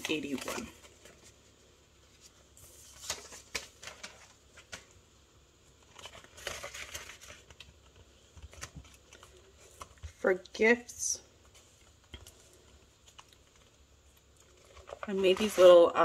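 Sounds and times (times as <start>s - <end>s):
crinkling banknotes and plastic pouch: 0.0s - 1.5s, 2.1s - 5.0s, 5.7s - 10.3s, 11.4s - 16.0s.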